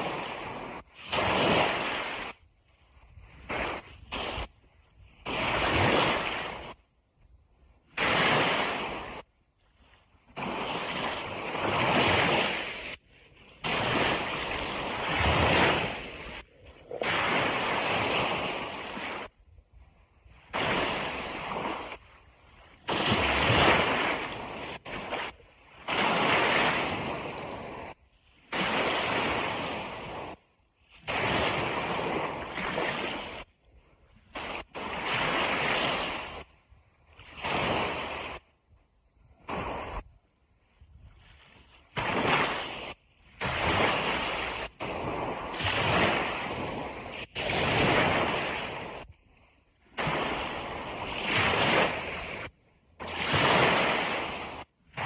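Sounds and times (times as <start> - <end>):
ocean surf on beach: 0.0 - 55.0.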